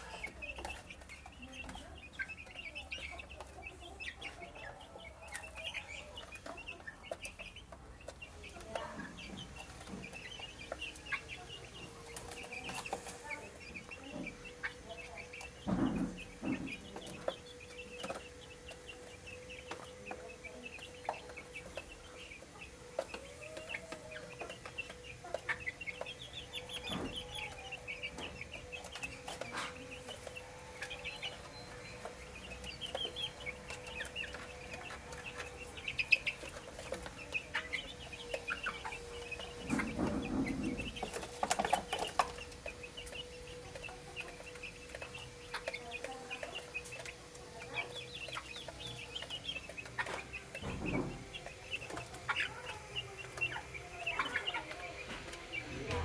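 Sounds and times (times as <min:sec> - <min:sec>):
beaks pecking at trough: 0:00.0 - 0:56.0
chicks peeping: 0:00.0 - 0:56.0.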